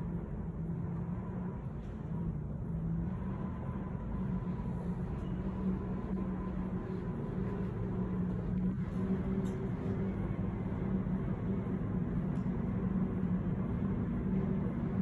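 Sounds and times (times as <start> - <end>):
underground platform hum: 0.0 - 15.0.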